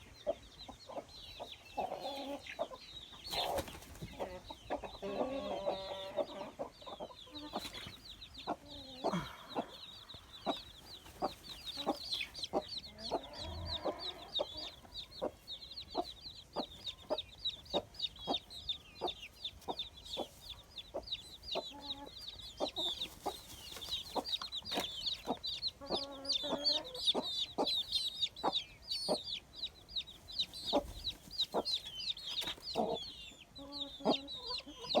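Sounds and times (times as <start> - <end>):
chickens clucking: 0.0 - 35.0
chicks peeping: 0.0 - 35.0.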